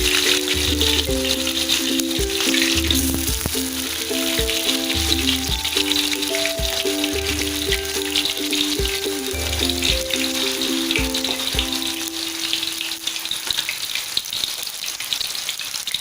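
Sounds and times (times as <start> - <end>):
background music: 0.0 - 13.6
food sizzling in hot oil: 0.0 - 16.0.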